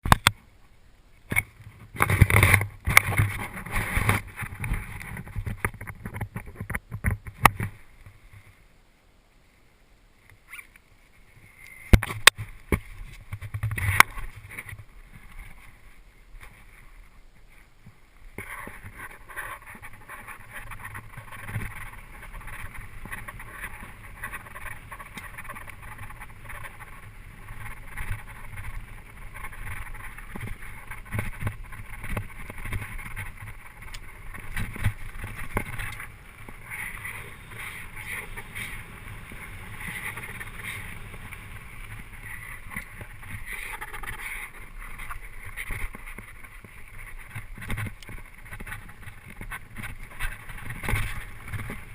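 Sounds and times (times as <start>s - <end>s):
wind and tyre noise: 0.0s - 51.9s
bike rattling: 1.3s - 8.5s, 11.6s - 51.9s.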